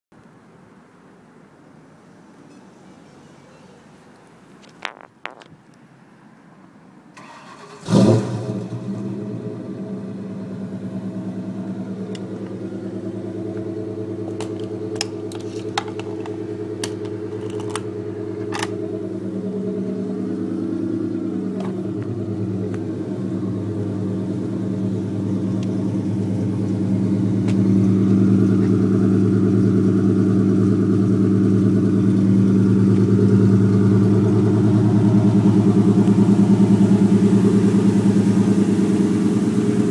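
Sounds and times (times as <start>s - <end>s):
car engine starting and idling: 7.1s - 39.9s.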